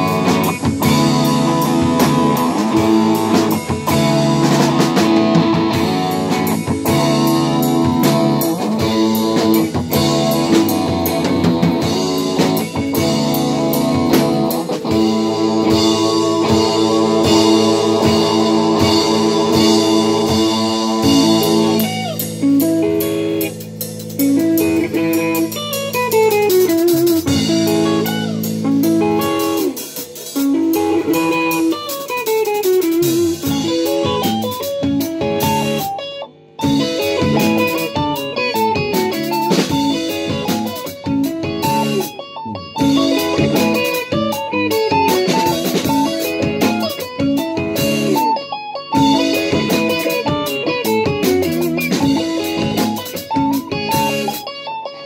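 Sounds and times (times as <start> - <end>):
electric bass: 0.0 - 31.8, 32.6 - 54.5
drum kit: 0.0 - 55.0
electric guitar lead lines: 0.0 - 55.0.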